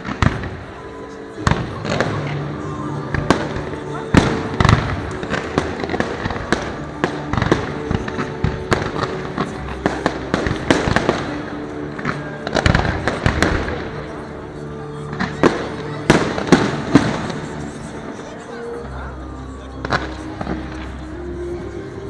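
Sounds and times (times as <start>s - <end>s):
background music: 0.0s - 22.0s
fireworks bangs and crackles: 0.0s - 22.0s.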